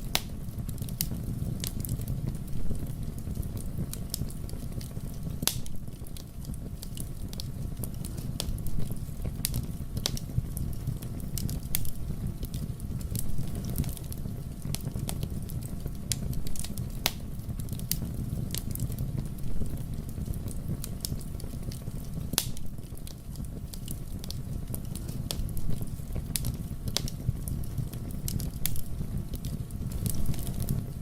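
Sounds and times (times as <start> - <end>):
fire crackling and popping: 0.0 - 31.0
low rumble of flames: 0.0 - 31.0.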